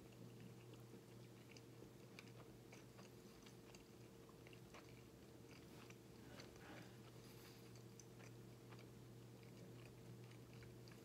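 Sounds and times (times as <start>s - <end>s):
closed-mouth chewing: 0.0s - 11.0s
steady low hum: 0.0s - 11.0s.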